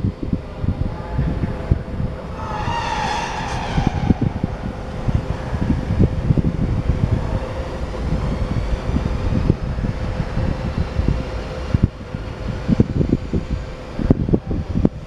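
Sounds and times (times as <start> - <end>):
electric locomotive motor hum: 0.0 - 15.0
wind buffeting microphone: 0.0 - 15.0.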